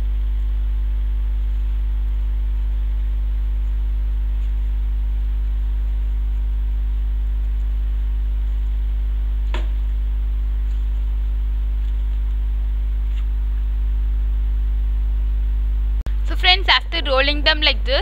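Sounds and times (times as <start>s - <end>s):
loud electrical hum: 0.0s - 18.0s.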